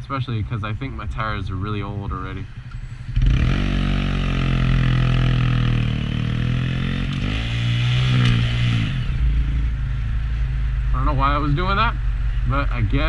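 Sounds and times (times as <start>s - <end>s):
motorcycle engine revving: 0.7s - 13.0s.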